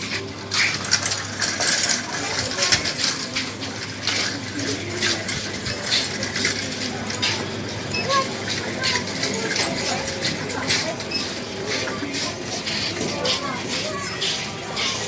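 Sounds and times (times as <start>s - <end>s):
wire shopping cart rattling: 0.0s - 15.0s.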